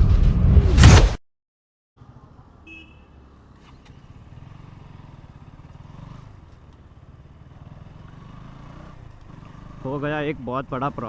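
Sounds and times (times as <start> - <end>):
muffled motorcycle engine running: 2.0 - 11.0.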